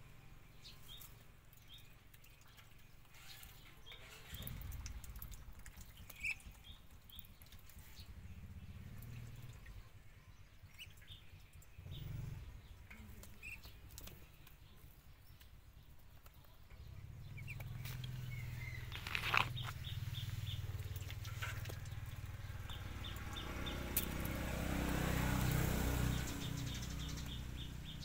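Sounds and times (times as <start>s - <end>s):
low steady rumble: 0.0s - 28.0s
bird chirps: 0.1s - 24.4s, 25.2s - 28.0s.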